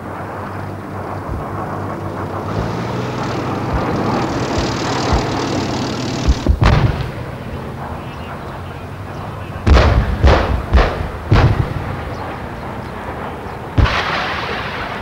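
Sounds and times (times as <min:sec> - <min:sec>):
low rumble: 0:00.0 - 0:14.1
rushing rumble: 0:00.0 - 0:15.0
loud gunfire blasts: 0:00.6 - 0:08.1, 0:09.4 - 0:15.0.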